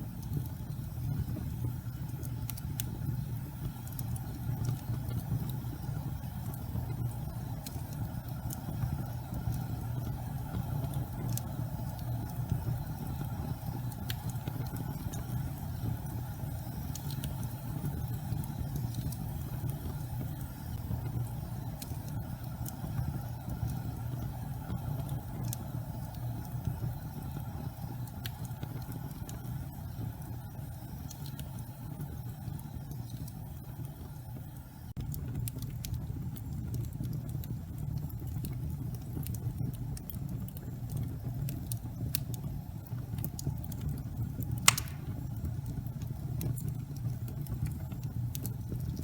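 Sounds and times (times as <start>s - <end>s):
faint fire crackles: 0.0s - 49.0s
fire rumbling: 0.0s - 49.0s.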